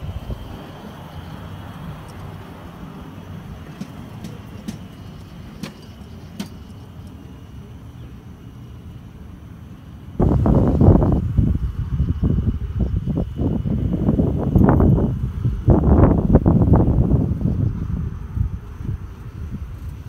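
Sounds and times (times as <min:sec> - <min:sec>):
miniature locomotive rumbling: 0:00.0 - 0:20.0.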